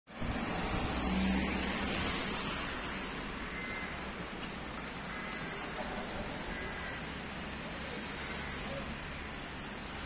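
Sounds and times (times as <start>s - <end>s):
rain falling on a wet street: 0.1s - 10.0s.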